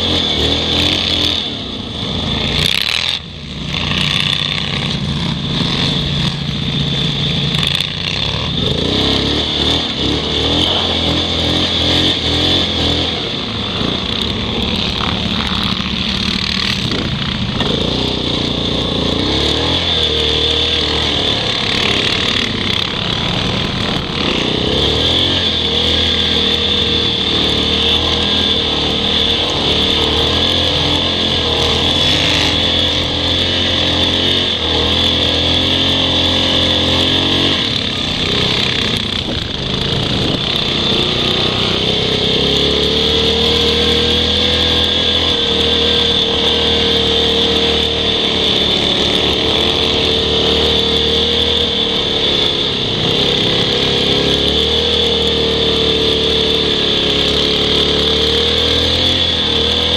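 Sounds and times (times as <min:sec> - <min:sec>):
atv engines revving: 0:00.0 - 0:59.9.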